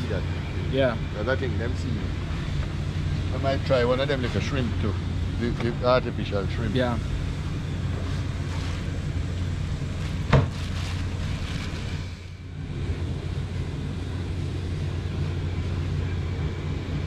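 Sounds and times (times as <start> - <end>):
low machinery hum: 0.0 - 17.0.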